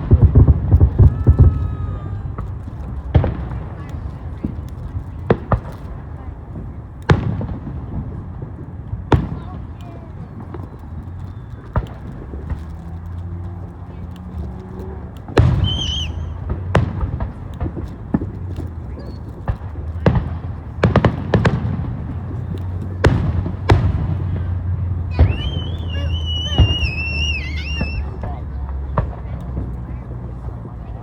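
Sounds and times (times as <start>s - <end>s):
fireworks booming: 0.0s - 31.0s.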